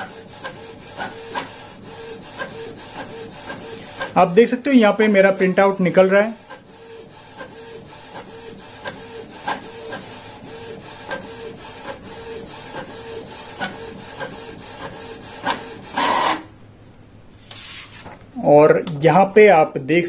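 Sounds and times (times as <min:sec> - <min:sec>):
inkjet printer whirring and ticking: 0:00.0 - 0:16.5.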